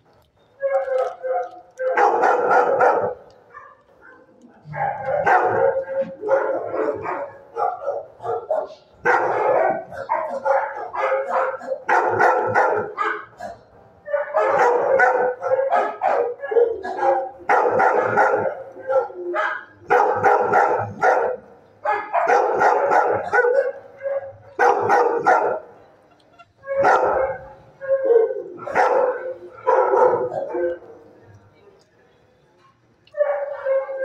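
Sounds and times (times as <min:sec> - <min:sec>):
dog barking: 0:00.6 - 0:25.7, 0:26.7 - 0:30.9, 0:33.2 - 0:34.0.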